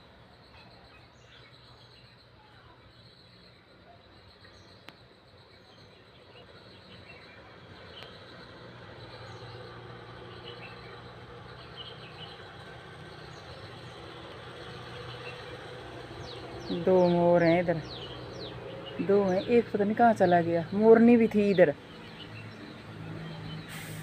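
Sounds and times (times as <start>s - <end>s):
bird chirps: 0.0s - 24.0s
insects: 0.0s - 24.0s.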